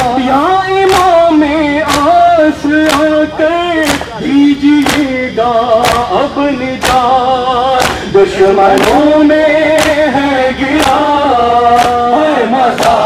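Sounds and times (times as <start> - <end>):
men singing lament: 0.0 - 13.0
crowd striking chests: 0.8 - 12.1.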